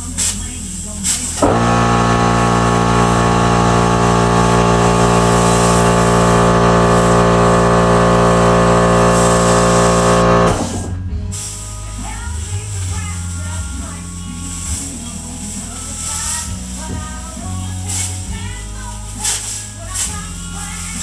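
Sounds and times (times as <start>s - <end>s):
air compressor humming and hissing: 0.0s - 21.0s.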